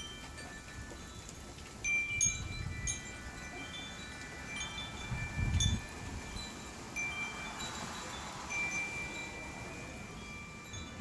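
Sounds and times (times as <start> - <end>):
wind chimes ringing: 0.0 - 11.0.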